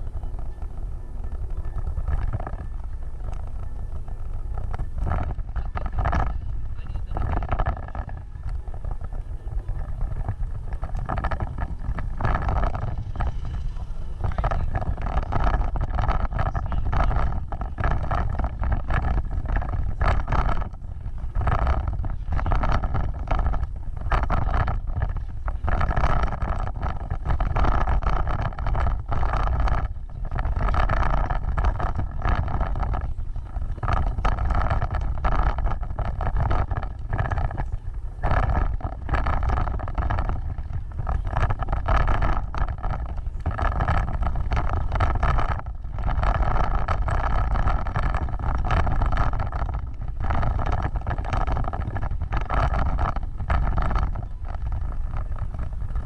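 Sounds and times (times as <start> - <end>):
engine and tyres rumbling: 0.0 - 56.0
wind buffeting microphone: 0.0 - 56.0.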